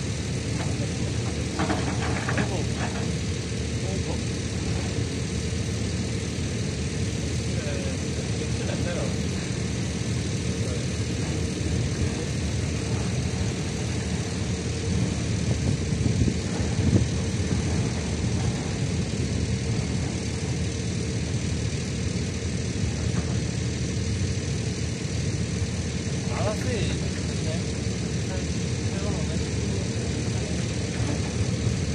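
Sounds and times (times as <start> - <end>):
heavy machinery engine droning: 0.0 - 31.9.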